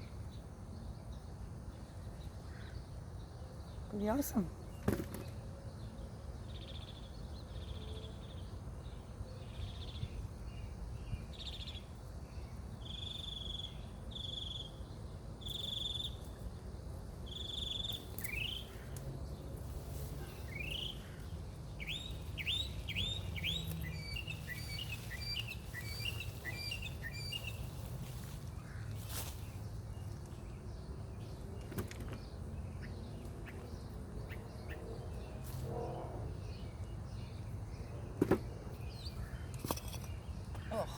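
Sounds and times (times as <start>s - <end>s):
birds singing: 0.0s - 40.9s.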